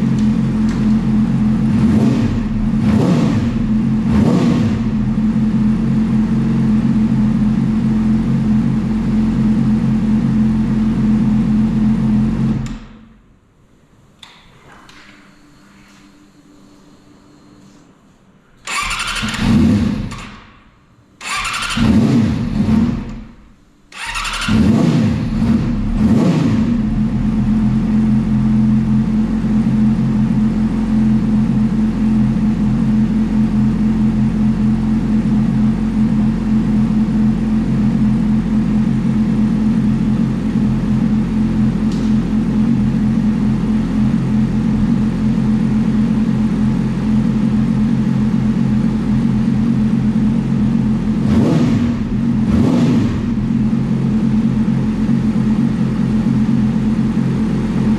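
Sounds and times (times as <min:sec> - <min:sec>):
motorcycle engine starting and revving: 0:00.0 - 0:13.2, 0:18.6 - 0:20.6, 0:21.2 - 0:57.9.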